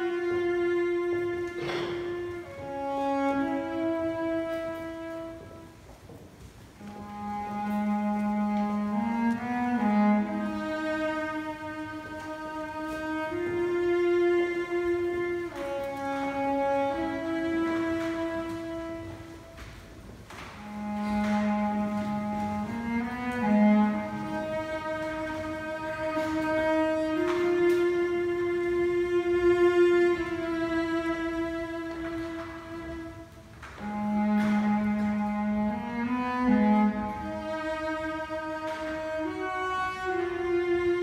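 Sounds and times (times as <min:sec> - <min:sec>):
solo cello slow melody: 0:00.0 - 0:41.0.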